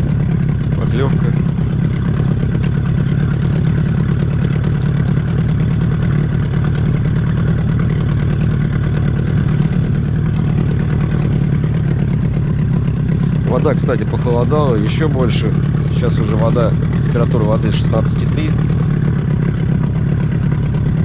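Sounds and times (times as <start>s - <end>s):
outboard motor humming: 0.0s - 21.0s.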